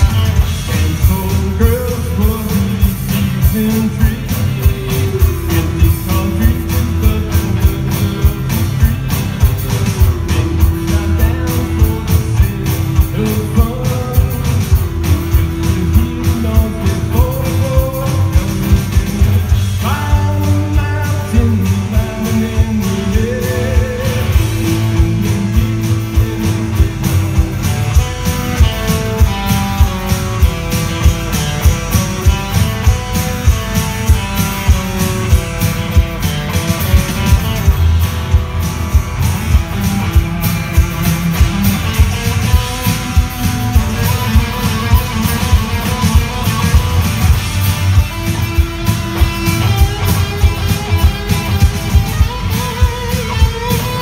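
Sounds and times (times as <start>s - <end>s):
acoustic guitar: 0.0s - 54.0s
drum kit steady beat: 0.0s - 54.0s.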